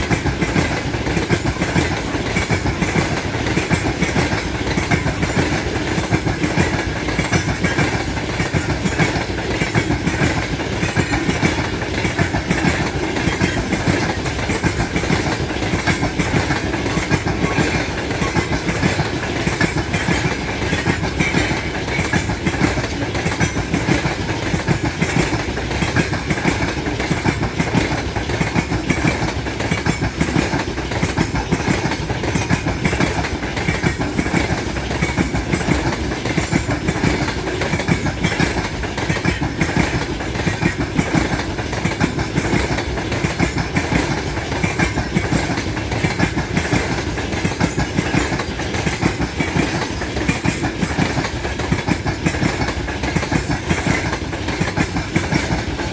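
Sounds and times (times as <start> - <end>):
freight train rolling past: 0.0 - 55.9
wheels clattering over rail joints: 0.0 - 55.9.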